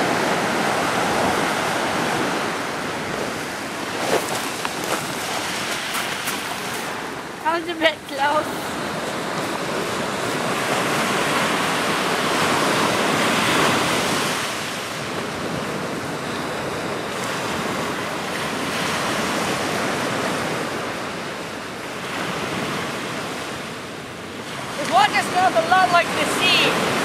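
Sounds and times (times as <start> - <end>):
surf washing up a cobble beach: 0.0 - 27.0.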